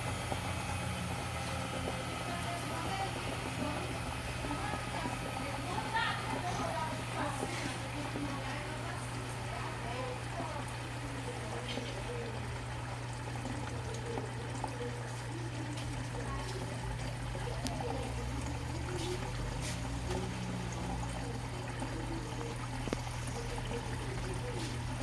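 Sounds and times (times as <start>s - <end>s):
water pouring into washing machine: 0.0s - 25.0s.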